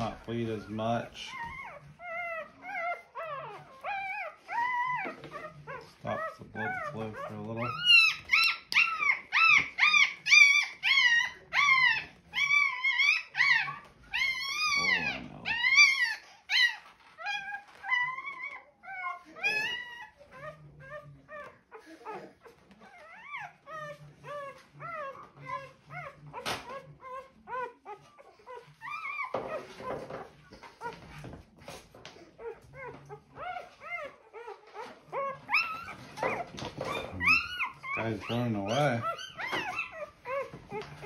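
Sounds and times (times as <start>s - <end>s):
puppy crying: 0.0s - 41.0s.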